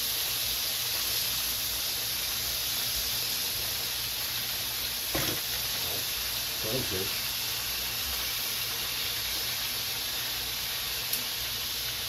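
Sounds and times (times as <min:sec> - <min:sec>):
ribs sizzling in grease: 0:00.0 - 0:12.0.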